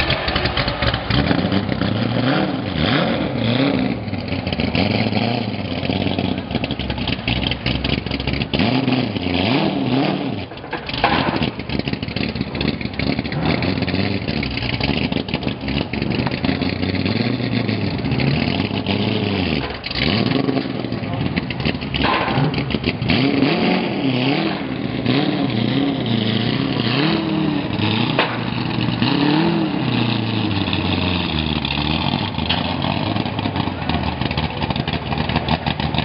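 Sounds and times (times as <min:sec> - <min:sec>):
race car engine idling and revving: 0:00.0 - 0:36.0.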